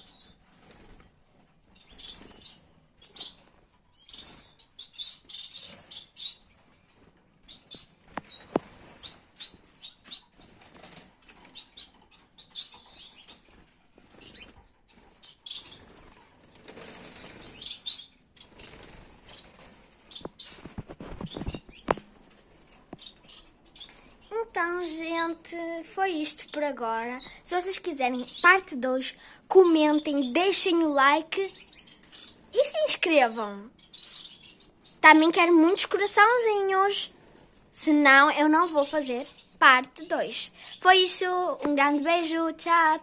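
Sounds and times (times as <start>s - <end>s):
finches fluttering: 0.0s - 43.0s.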